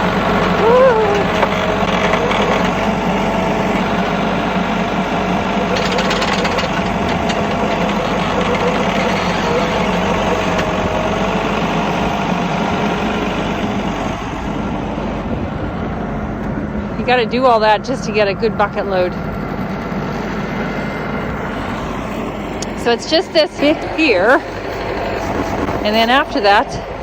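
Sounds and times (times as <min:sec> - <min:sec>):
loader working packed snow: 0:00.0 - 0:27.0
tractor engine running: 0:00.0 - 0:27.0.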